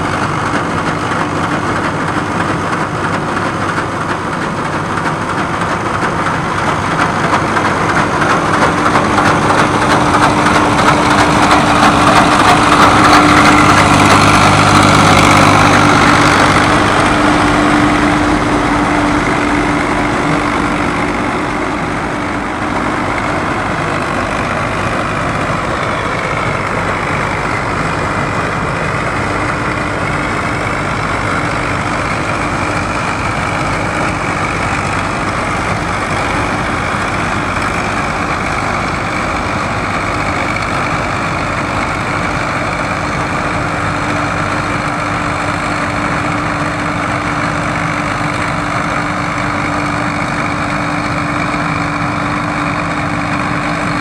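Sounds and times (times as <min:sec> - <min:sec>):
combine harvester diesel engine: 0:00.0 - 0:54.0
constant whine: 0:00.0 - 0:54.0
threshing machinery: 0:00.0 - 0:54.0.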